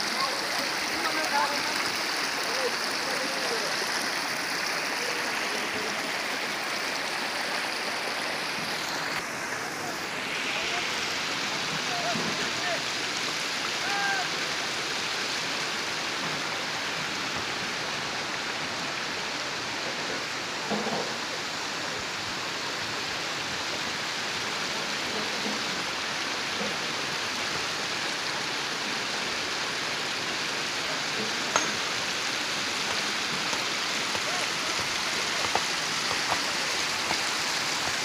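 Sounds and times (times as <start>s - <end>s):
water hissing: 0.0s - 19.2s, 24.0s - 38.0s.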